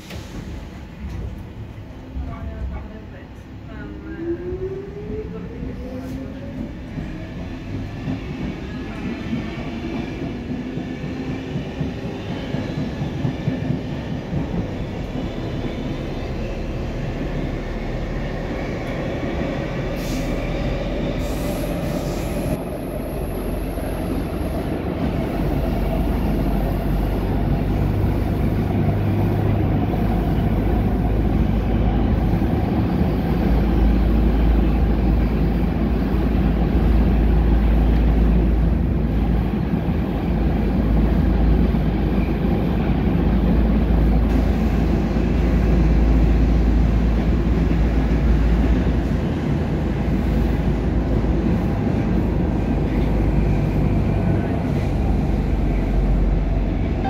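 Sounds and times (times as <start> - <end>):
wheels rumbling on rails: 3.8 - 57.0.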